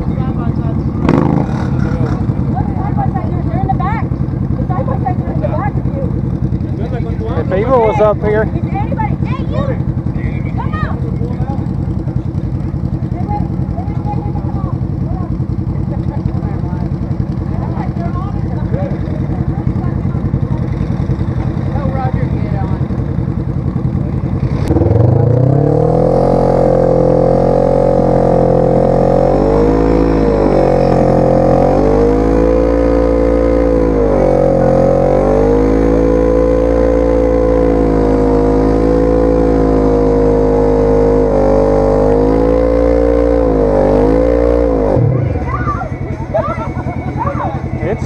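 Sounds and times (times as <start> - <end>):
off-road vehicle engine revving: 0.0 - 48.0.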